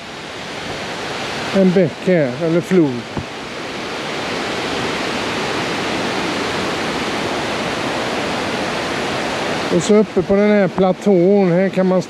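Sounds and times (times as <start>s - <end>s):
river and waterfall rushing: 0.0s - 12.0s.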